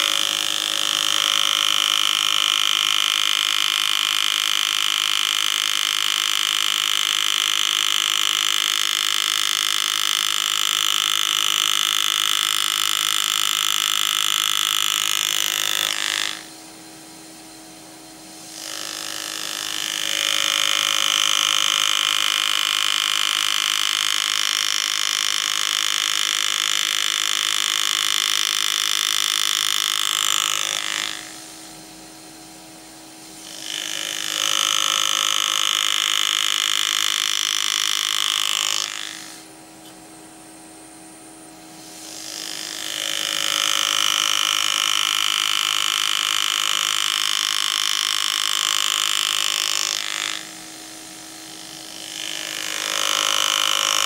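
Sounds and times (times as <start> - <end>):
pneumatic engraving tool buzzing: 0.0 - 54.0.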